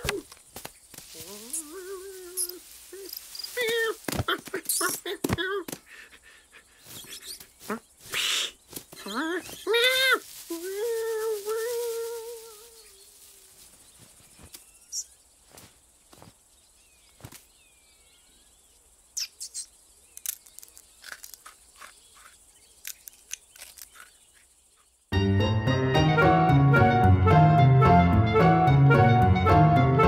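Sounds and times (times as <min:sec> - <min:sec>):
faint countryside ambience: 0:00.0 - 0:25.2.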